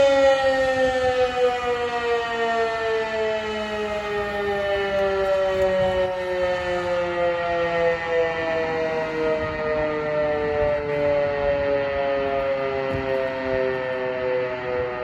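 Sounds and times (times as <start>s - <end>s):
siren wailing with falling pitch: 0.0s - 15.0s.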